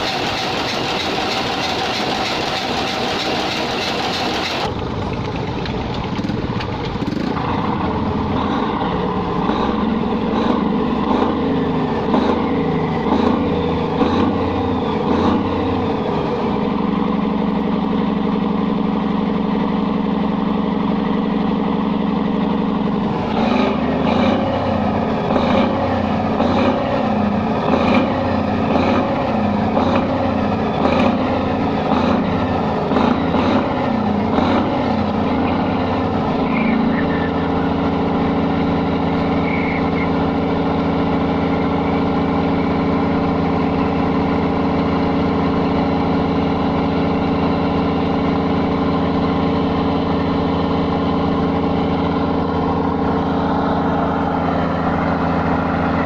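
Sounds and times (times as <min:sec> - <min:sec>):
engine knocking: 0:00.0 - 0:24.4, 0:25.0 - 0:56.0
diesel engine running: 0:00.0 - 0:56.0.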